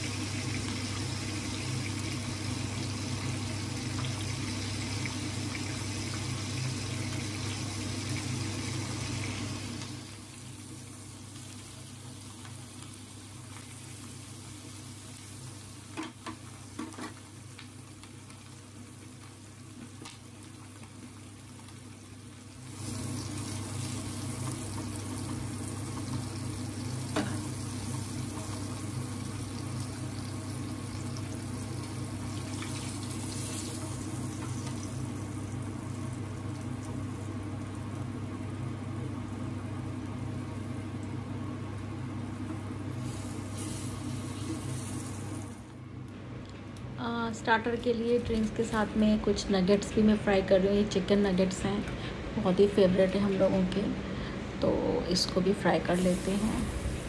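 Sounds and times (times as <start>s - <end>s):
fish sizzling in oil: 0.0s - 45.7s, 55.6s - 57.0s.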